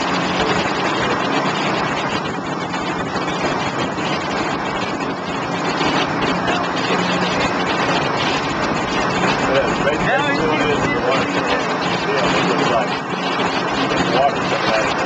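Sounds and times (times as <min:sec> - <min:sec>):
outboard motors running: 0:00.0 - 0:15.0
rush of wind and water: 0:00.0 - 0:15.0.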